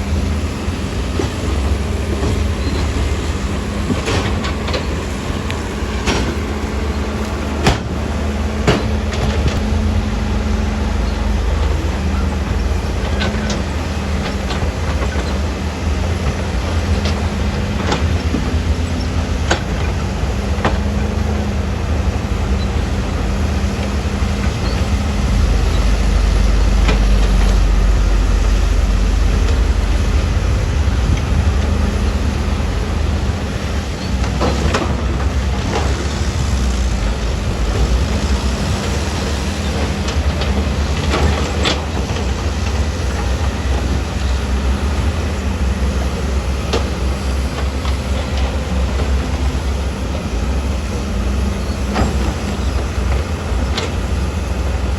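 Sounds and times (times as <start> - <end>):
deep diesel engine rumble: 0.0 - 54.9.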